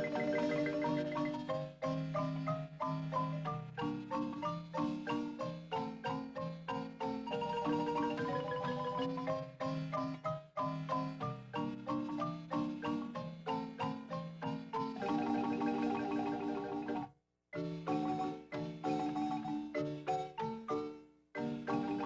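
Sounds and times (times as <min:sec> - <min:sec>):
marimba melody: 0:00.0 - 0:22.0.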